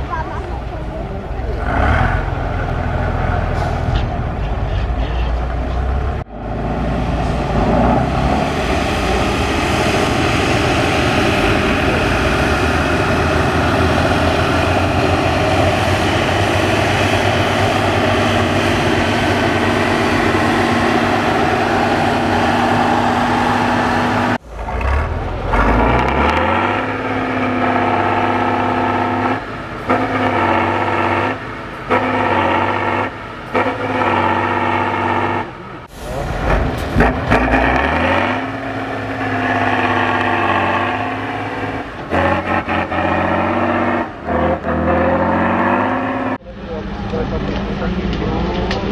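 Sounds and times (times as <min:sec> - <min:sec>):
truck diesel engine under load: 0:00.0 - 0:48.9.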